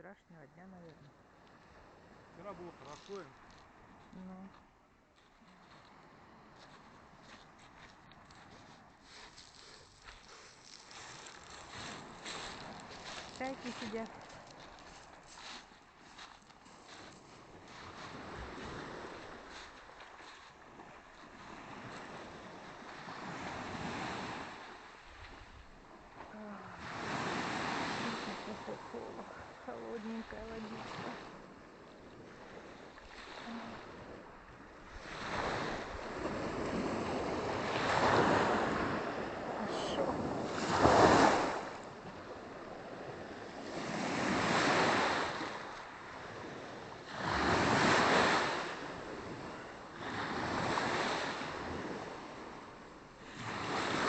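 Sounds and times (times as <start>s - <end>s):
waves washing on pebble beach: 2.1s - 4.1s, 5.2s - 54.0s.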